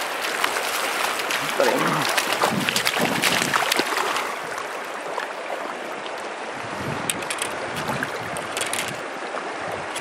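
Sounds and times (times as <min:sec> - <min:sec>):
stream water running over stones: 0:00.0 - 0:10.0.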